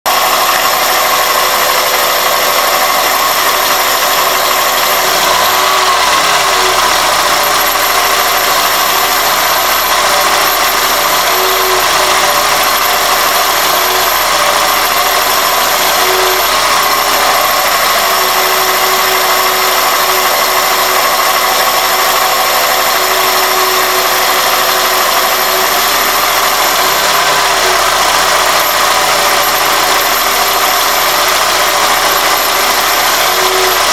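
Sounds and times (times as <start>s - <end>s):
car engine idling: 0.1s - 33.9s
high-pitched whistle: 0.1s - 33.9s.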